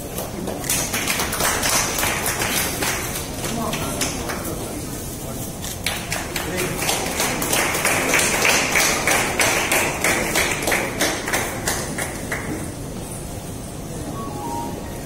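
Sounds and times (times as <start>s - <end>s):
audience clapping: 0.0s - 13.0s
murmur of voices: 0.0s - 15.0s.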